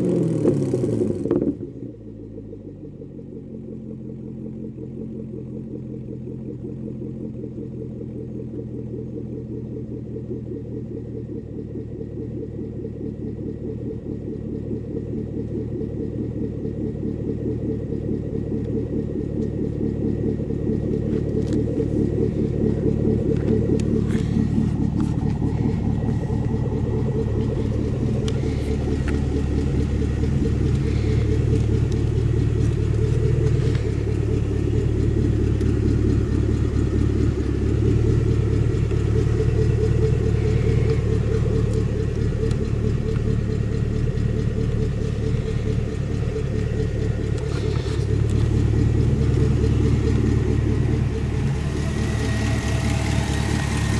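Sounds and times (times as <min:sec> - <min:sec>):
car engine rumbling: 0:00.0 - 0:53.9.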